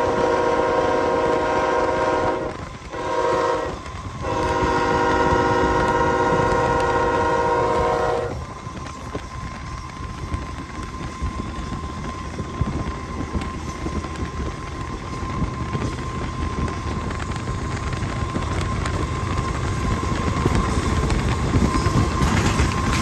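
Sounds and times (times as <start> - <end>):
train rumbling by: 0.0 - 23.0
wheels clicking on rails: 0.0 - 23.0
wind noise on microphone: 0.0 - 23.0.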